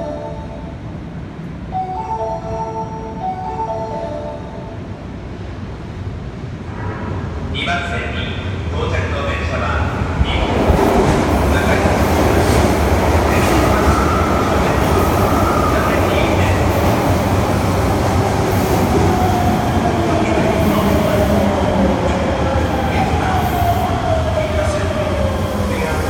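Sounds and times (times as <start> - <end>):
train wheels rumbling on rail: 5.1 - 26.0.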